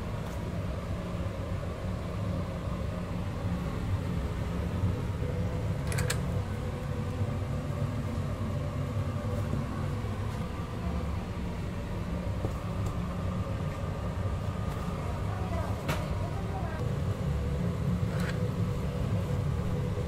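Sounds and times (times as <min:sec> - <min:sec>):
kitchen machinery rumble: 0:00.0 - 0:20.0.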